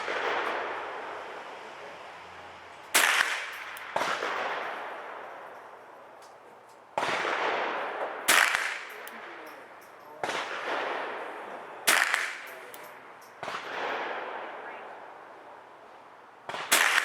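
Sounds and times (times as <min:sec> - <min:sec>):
rifle shots with echo: 0:00.0 - 0:01.8, 0:02.6 - 0:15.3, 0:16.4 - 0:17.0.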